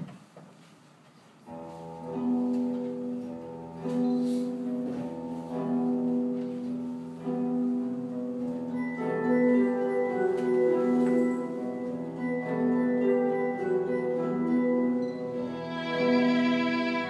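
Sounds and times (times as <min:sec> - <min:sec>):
slow instrumental music: 0:01.5 - 0:17.0.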